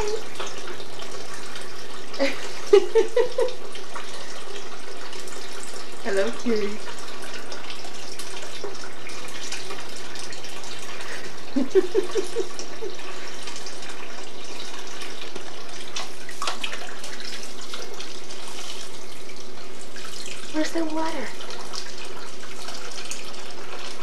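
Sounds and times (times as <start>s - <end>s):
faucet running into sink: 0.0s - 24.0s.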